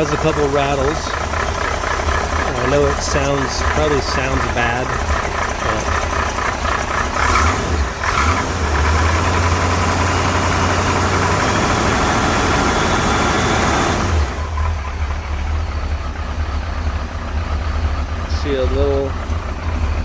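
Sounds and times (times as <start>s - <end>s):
car engine running: 0.0s - 20.0s
engine rattles: 0.0s - 20.0s.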